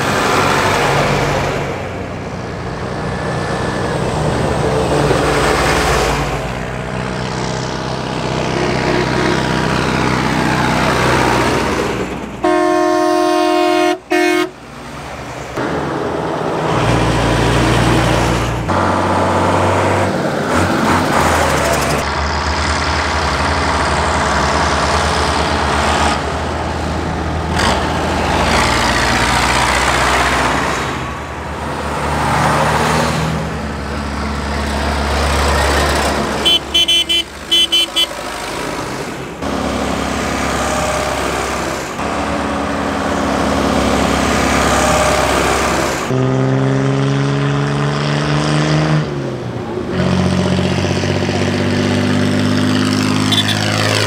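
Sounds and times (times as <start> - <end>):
tractors and trucks driving past: 0.0 - 54.0.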